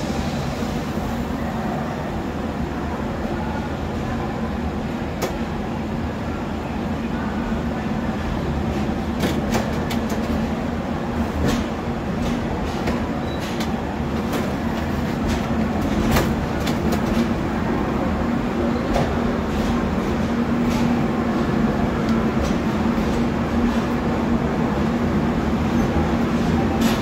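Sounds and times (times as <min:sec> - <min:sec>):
train hum and rumble: 0:00.0 - 0:27.0.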